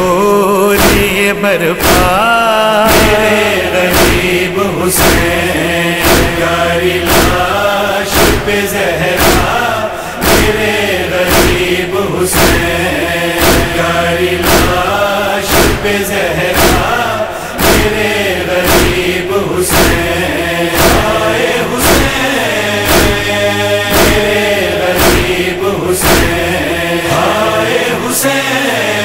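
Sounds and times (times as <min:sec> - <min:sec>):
men's voices chanting: 0:00.0 - 0:29.0
steady percussive beat: 0:00.8 - 0:02.3, 0:02.9 - 0:28.2.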